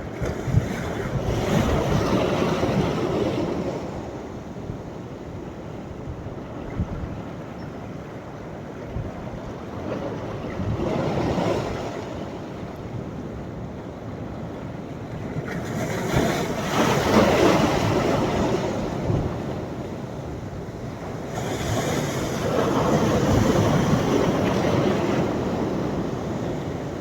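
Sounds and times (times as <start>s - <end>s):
sea waves breaking on shore: 0.0s - 27.0s.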